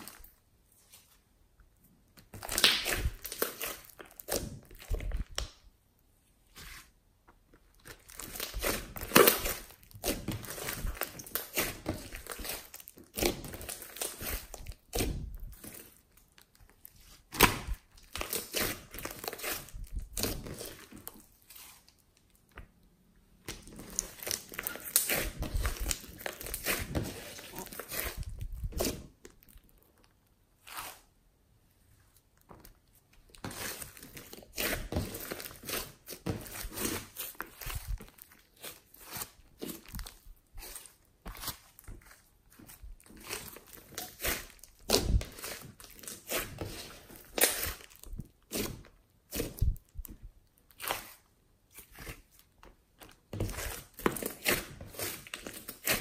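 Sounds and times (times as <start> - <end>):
slime squelching by hand: 2.0 - 5.7, 7.6 - 31.2, 32.0 - 56.0.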